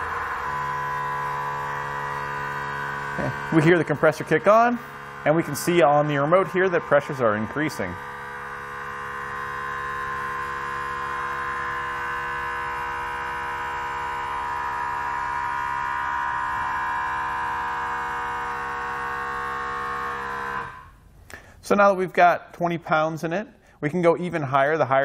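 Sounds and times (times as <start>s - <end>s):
air compressor whining: 0.0s - 21.8s.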